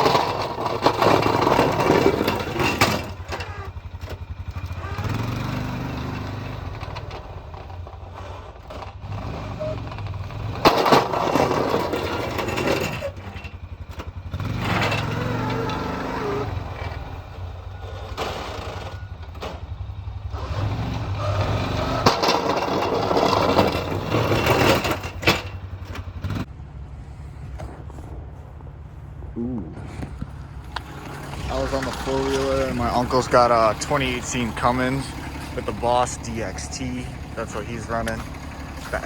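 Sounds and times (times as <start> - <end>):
rushing scraping noise: 0.0 - 13.8, 20.4 - 39.0
snowplow engine running: 0.0 - 39.0.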